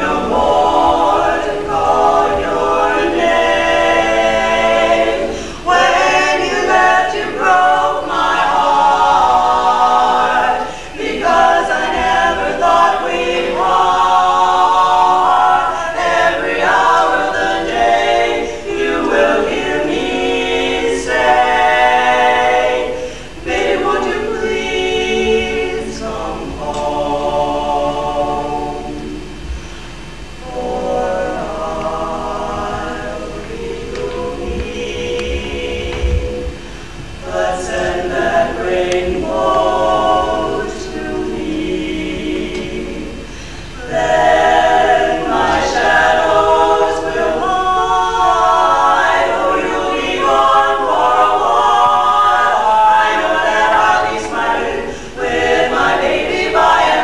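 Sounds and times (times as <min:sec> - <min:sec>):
women singing a cappella harmony: 0:00.0 - 0:57.0.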